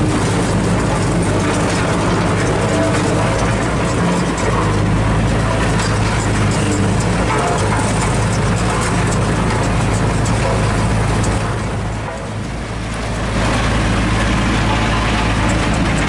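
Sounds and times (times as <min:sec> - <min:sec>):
road roller diesel engine running: 0:00.0 - 0:16.0.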